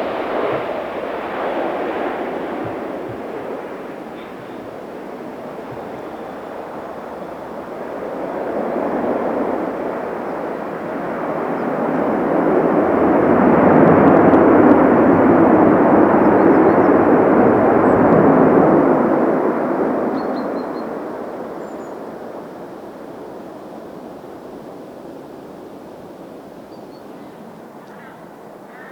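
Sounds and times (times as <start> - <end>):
jet airliner engine noise: 0.0 - 28.9.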